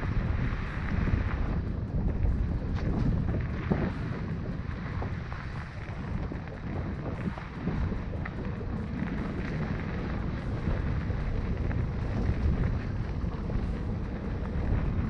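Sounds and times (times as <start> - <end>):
bike tyres rolling on dirt: 0.0 - 15.0
faint clicks and rattles: 0.0 - 15.0
wind over microphone: 0.0 - 15.0.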